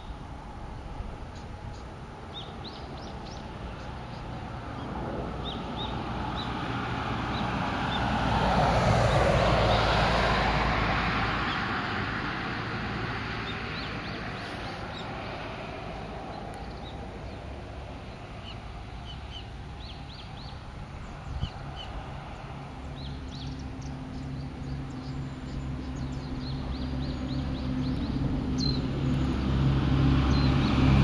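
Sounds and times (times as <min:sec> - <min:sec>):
road vehicle passing: 0:00.0 - 0:31.0.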